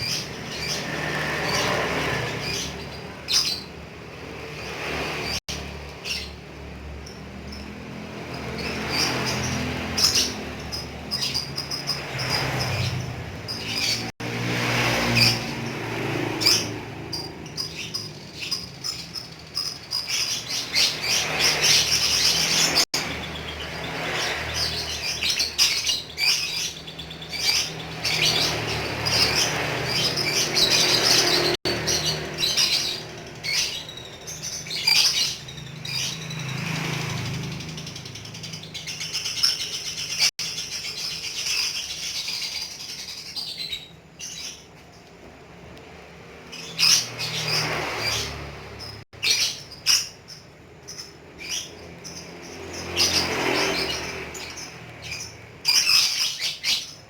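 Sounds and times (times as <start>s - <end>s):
bird chirping and trilling: 0.0s - 45.2s, 45.9s - 57.0s.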